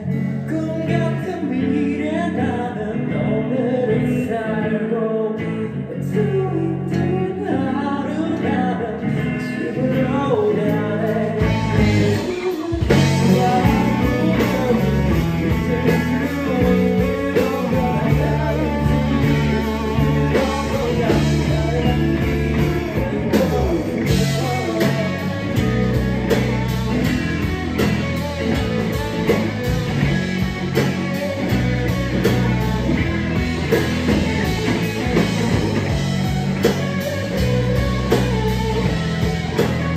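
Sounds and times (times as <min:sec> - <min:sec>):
bass guitar: 0:00.0 - 0:39.9
drums: 0:00.0 - 0:39.9
electric guitar: 0:00.0 - 0:39.9
person singing: 0:00.0 - 0:39.9.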